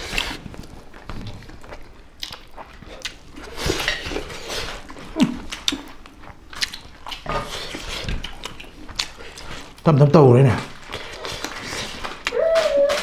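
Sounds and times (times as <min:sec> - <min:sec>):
chewing and lip-smacking: 0:00.0 - 0:09.9, 0:10.6 - 0:13.0.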